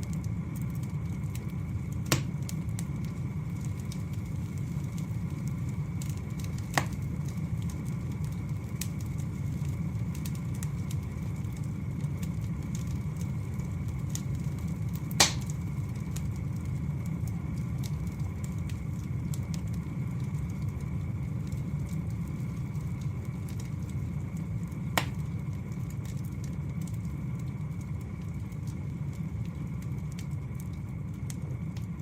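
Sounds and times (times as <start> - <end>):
wood fire burning and crackling: 0.0 - 32.0
fire sharp pops: 0.1 - 32.0.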